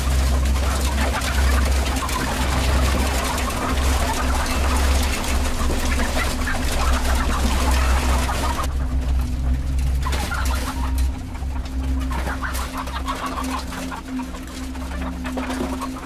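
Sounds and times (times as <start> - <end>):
hens clucking: 0.0 - 16.0
steady low hum: 0.0 - 16.0.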